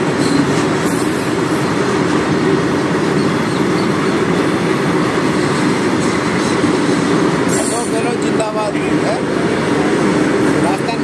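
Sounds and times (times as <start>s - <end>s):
freight train wagons passing: 0.0s - 11.0s.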